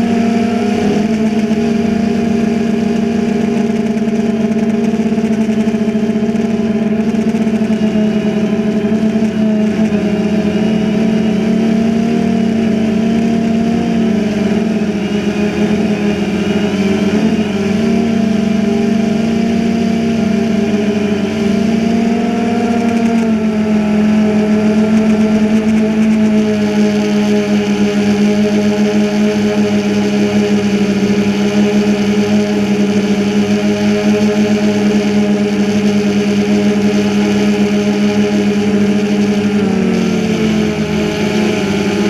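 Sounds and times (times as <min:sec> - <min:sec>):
drone propellers humming: 0:00.0 - 0:42.0.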